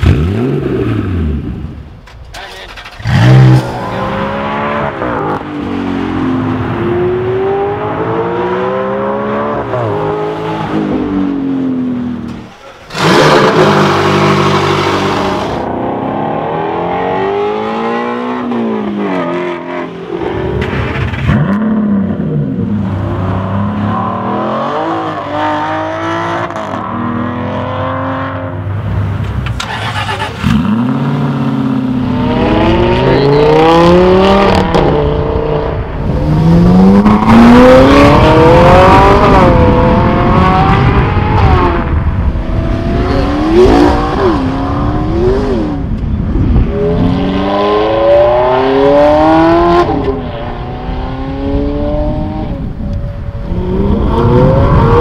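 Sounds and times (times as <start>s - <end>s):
supercar engines revving and accelerating: 0.0s - 1.8s, 2.9s - 55.0s.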